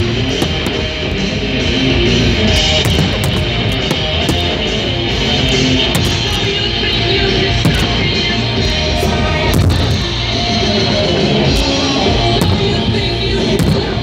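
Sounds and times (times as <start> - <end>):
rock music with electric guitar: 0.0 - 14.0.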